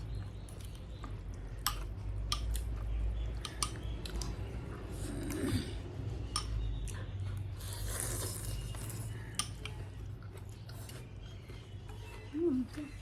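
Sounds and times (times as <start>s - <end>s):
wet eating noises: 0.0s - 13.0s.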